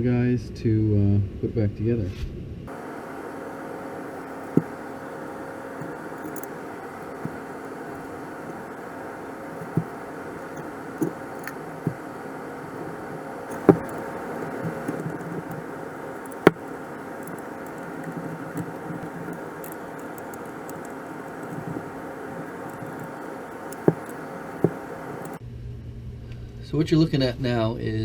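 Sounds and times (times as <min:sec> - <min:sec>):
metal tools clinking: 0:02.7 - 0:25.4
steady hum: 0:02.7 - 0:25.4.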